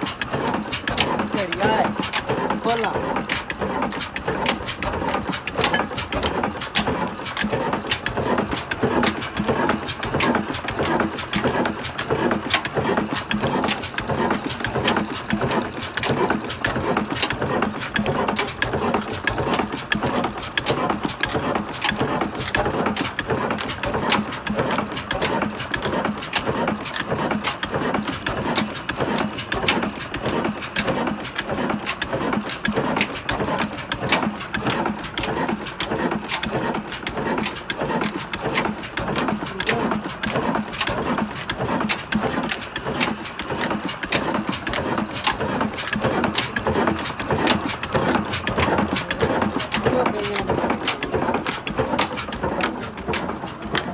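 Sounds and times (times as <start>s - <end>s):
diesel engine knocking: 0.0s - 53.9s.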